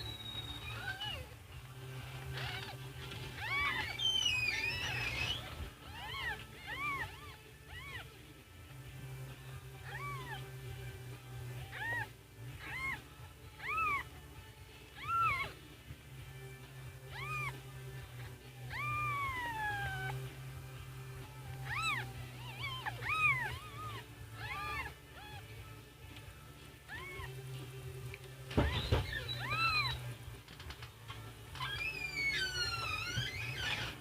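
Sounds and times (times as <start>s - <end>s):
kittens mewing: 0.4s - 1.4s, 2.1s - 8.3s, 9.4s - 10.8s, 11.5s - 15.7s, 16.9s - 25.9s, 26.7s - 30.8s, 31.5s - 34.0s.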